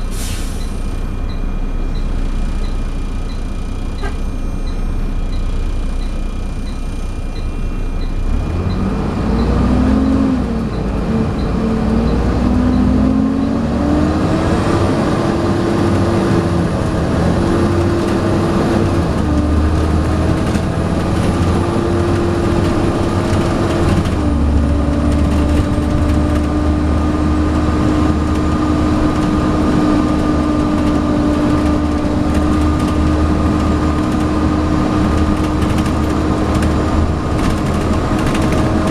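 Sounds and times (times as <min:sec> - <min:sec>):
bus diesel engine pulling away: 0:00.0 - 0:38.9.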